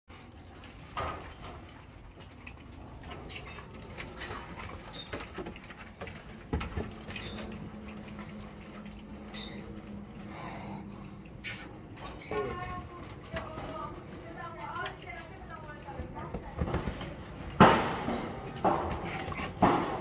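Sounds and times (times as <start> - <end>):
paws clicking on concrete: 3.1 - 20.0.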